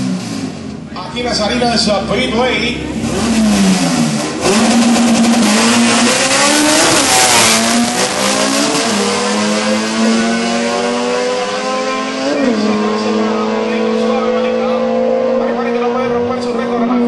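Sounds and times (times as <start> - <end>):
car engines at full throttle: 0.0 - 17.0.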